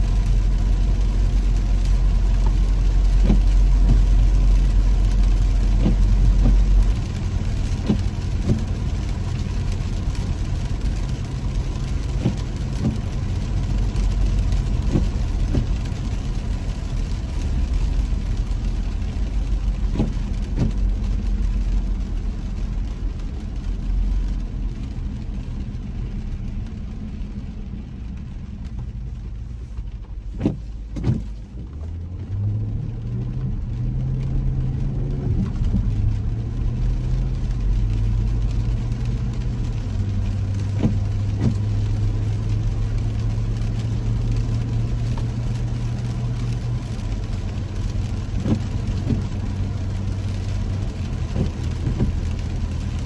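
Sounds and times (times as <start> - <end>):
car engine: 0.0 - 53.0
road noise: 0.0 - 53.0.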